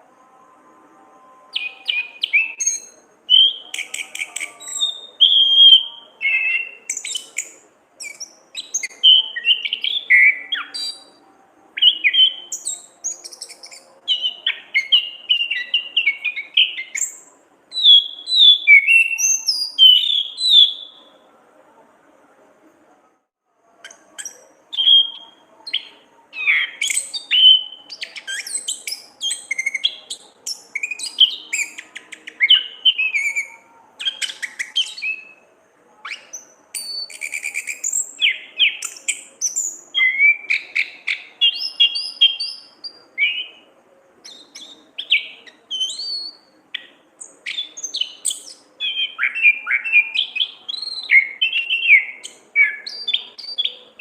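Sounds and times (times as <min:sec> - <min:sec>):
thrush singing: 0:00.0 - 0:22.5, 0:23.8 - 0:54.0.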